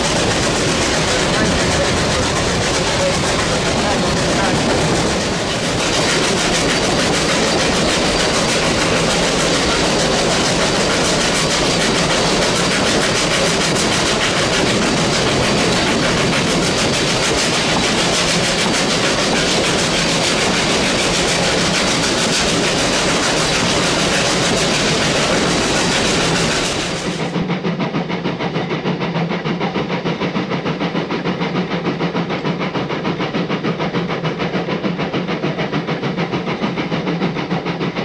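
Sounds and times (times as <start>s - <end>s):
train wheels clattering on rails: 0.0s - 38.0s.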